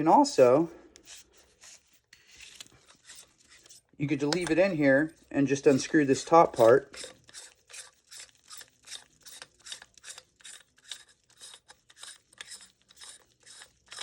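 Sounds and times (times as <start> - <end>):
threads rasping while unscrewing: 0.9 - 14.0.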